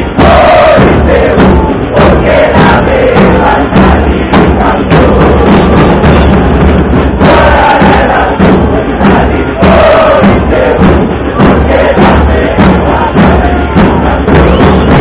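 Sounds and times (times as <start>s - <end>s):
crowd chanting: 0.0s - 15.0s
steady drum beat: 0.0s - 15.0s.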